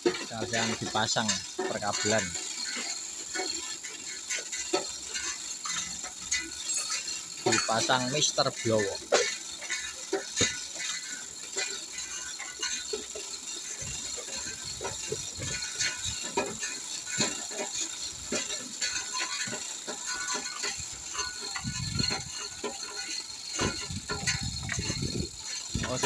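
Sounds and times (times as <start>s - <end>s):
cables and metal rigging rattling: 0.0s - 26.0s.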